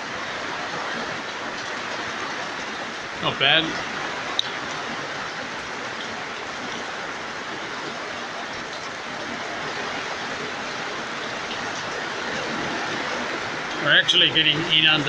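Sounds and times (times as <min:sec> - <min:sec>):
heavy rain on a tent: 0:00.0 - 0:15.0.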